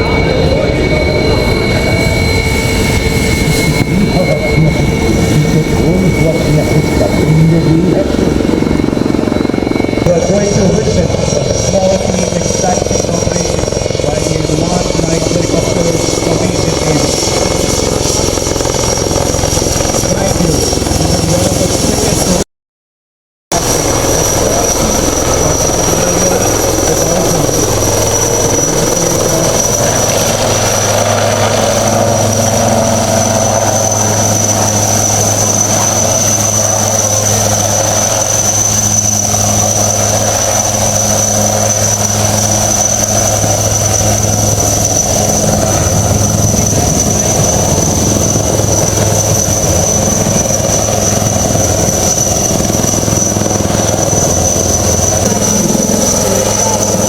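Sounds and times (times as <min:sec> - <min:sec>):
high whine: 0:00.0 - 0:22.4, 0:23.5 - 0:57.0
helicopter rotor and engine drone: 0:00.0 - 0:22.5, 0:23.5 - 0:57.0.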